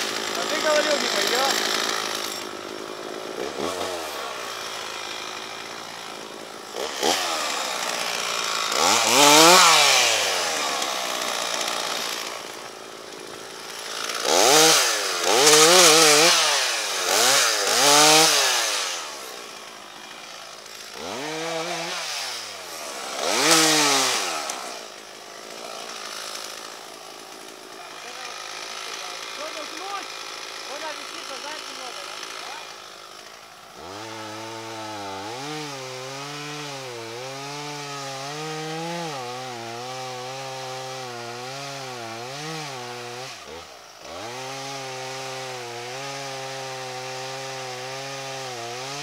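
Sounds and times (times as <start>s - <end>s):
chainsaw revving: 0.0s - 49.0s.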